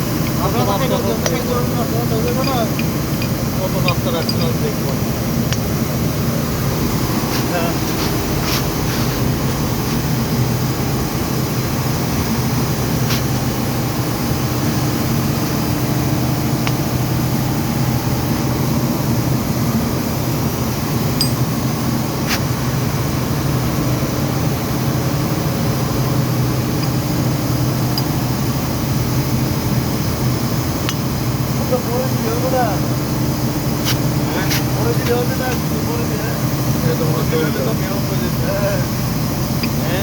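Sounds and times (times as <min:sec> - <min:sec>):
machinery droning: 0:00.0 - 0:40.0.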